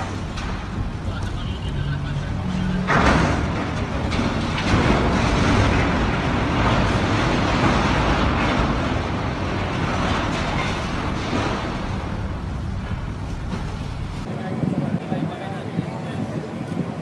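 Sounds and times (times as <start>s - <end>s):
heavy vehicle running: 0.0s - 17.0s.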